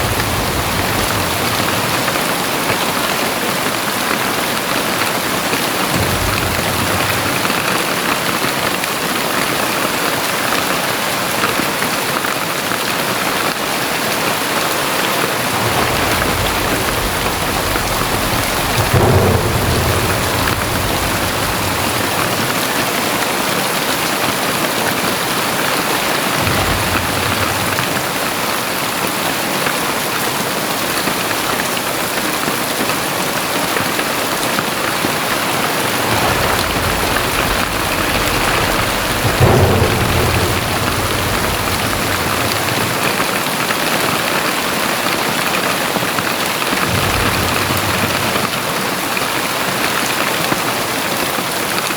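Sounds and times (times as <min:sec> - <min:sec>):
low thunder rumble: 0:00.0 - 0:10.0, 0:13.4 - 0:30.0, 0:31.1 - 0:45.6, 0:46.7 - 0:50.8
heavy rain pouring: 0:00.0 - 0:51.9.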